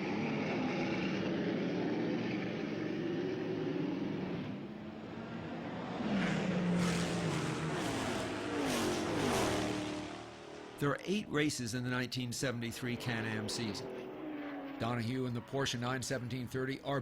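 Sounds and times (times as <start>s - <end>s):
race car engines passing: 0.0s - 16.6s.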